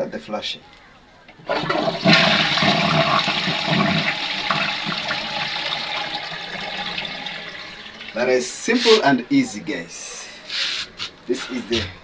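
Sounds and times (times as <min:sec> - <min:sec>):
toilet flushing: 0:01.2 - 0:12.0.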